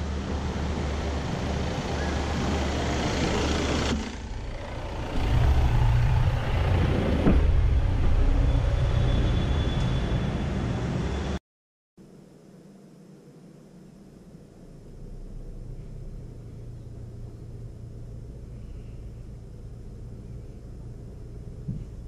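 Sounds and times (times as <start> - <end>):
car engine and tyres rumble: 0.0 - 11.4, 14.0 - 22.0.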